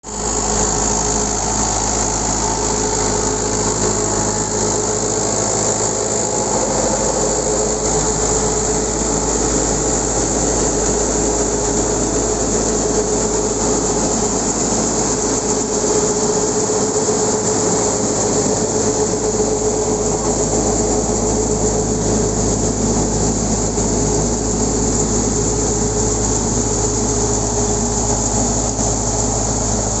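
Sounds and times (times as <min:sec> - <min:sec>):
steady whine: 0:00.0 - 0:30.0
tractor engine running: 0:00.1 - 0:30.0.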